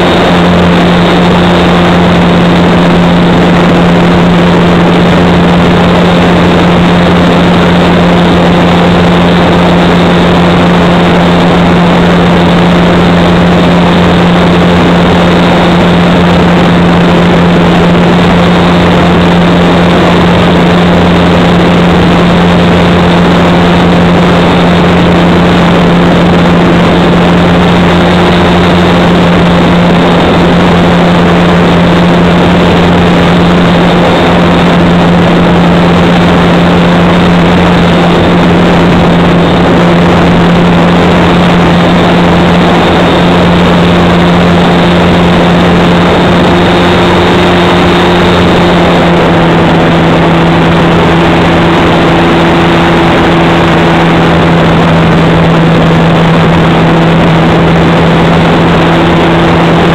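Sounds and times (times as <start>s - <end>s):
model plane motor humming: 0.0s - 59.9s.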